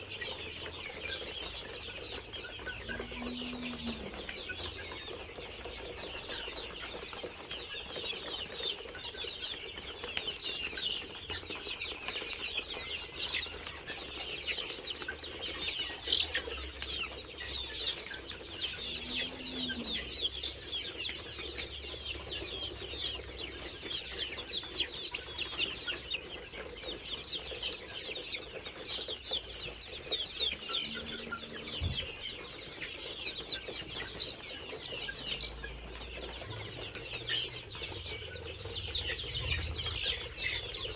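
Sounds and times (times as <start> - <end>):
chickens cheeping and clucking: 0.0 - 40.9.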